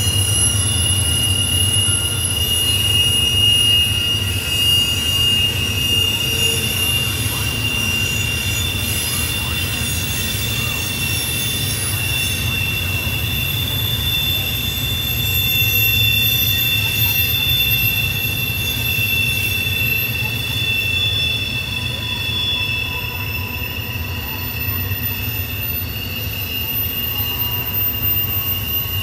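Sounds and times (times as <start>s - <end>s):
high-pitched wheel flange squeal: 0.0s - 29.0s
low rumble of train cars: 0.0s - 29.0s.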